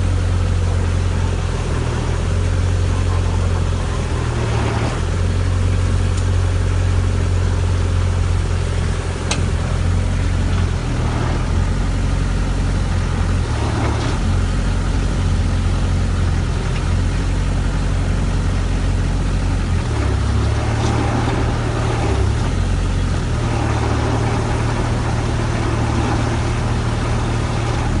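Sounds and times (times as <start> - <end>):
drilling rig engine running: 0.0 - 28.0.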